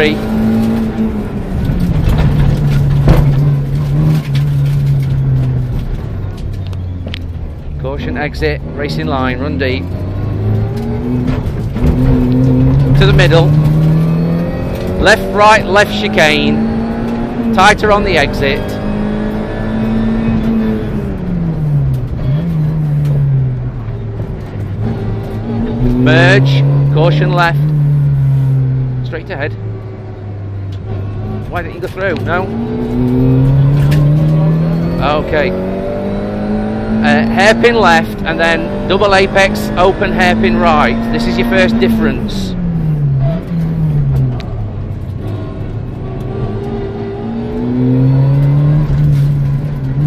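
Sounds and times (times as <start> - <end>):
car engine pulling hard: 0.0 - 50.0
road and tyre noise: 0.0 - 50.0.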